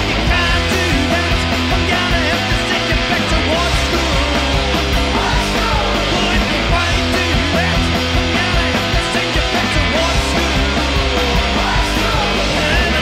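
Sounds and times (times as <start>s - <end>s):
punk rock song: 0.0s - 13.0s.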